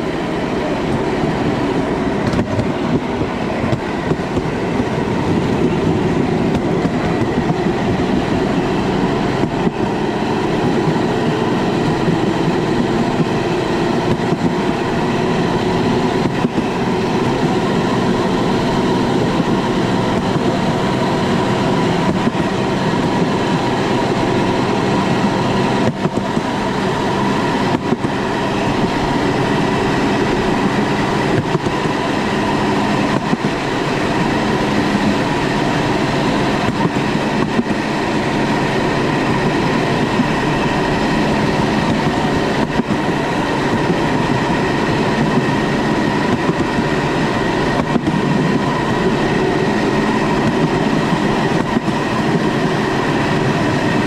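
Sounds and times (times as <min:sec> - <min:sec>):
engine drone: 0:00.0 - 0:54.0
wheels rattling on rails: 0:00.0 - 0:54.0.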